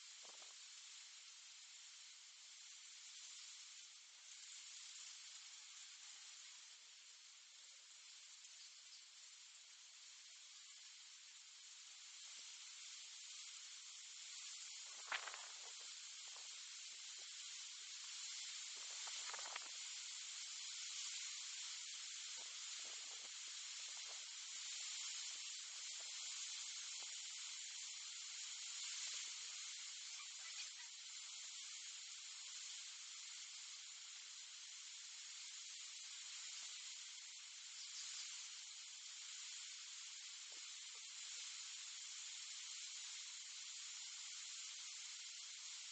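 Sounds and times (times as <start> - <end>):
faint background hiss: 0.0 - 45.9.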